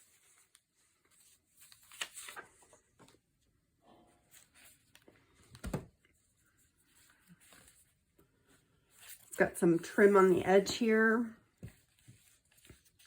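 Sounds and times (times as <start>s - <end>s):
paper pages rustling and crinkling: 0.0s - 3.3s, 4.1s - 13.0s.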